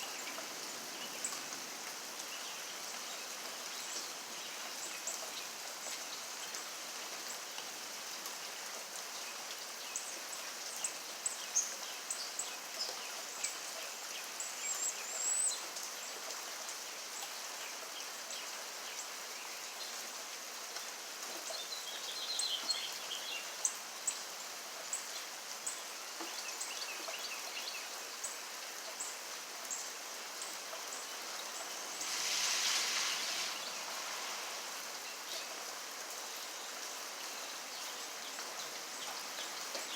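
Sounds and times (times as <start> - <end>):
rush of water: 0.0 - 39.9
steady rain hiss: 0.0 - 39.9.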